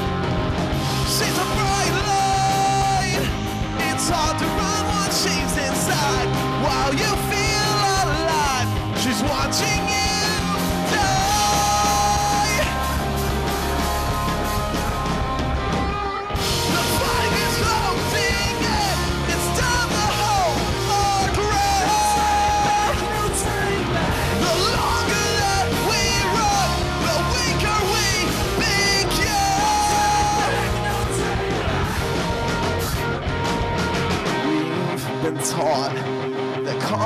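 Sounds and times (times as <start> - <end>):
live rock band playing: 0.0 - 37.0
singer yelling: 1.0 - 32.9.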